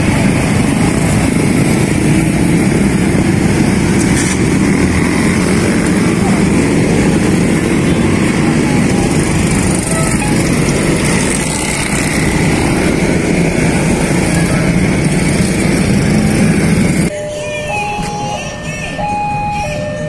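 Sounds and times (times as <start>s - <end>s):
motorcycles and scooters riding past: 0.0s - 17.1s.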